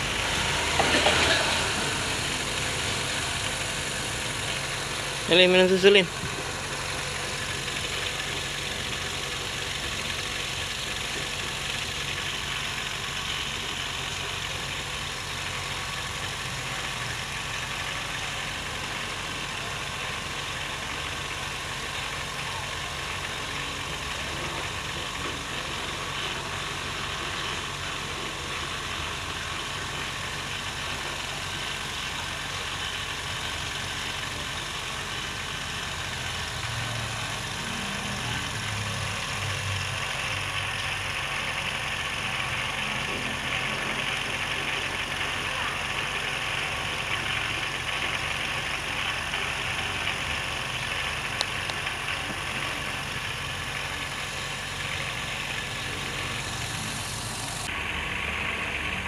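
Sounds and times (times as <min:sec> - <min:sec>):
steady mechanical drone: 0:00.0 - 0:59.0.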